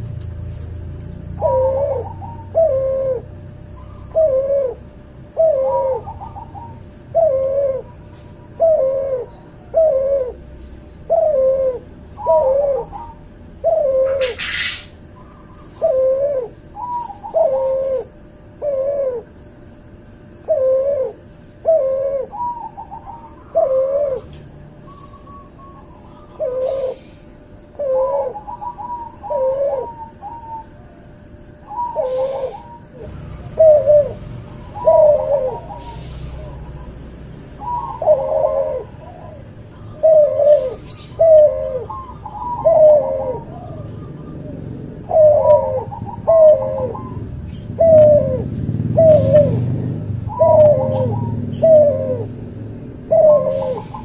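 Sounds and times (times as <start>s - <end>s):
dove cooing: 1.2s - 19.4s, 20.3s - 54.0s.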